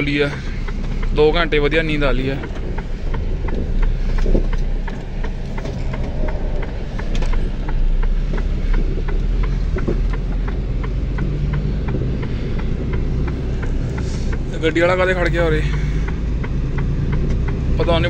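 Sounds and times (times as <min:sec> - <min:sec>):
light regular ticking: 0:00.0 - 0:18.0
truck engine and road drone: 0:00.0 - 0:18.0.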